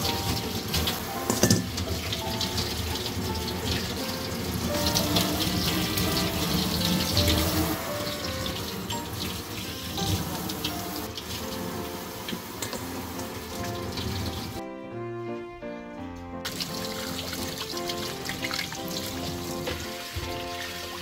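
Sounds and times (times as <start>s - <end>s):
tap running into metal sink: 0.0s - 14.6s, 16.4s - 21.0s
background music: 0.0s - 21.0s.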